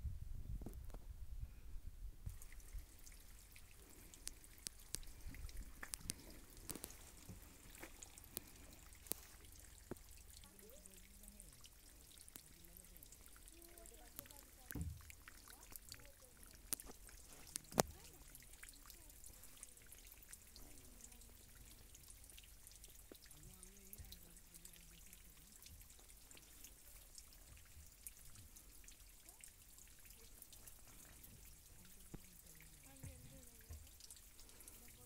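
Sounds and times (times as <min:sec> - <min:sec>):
faint steady hiss: 0:00.0 - 0:35.0.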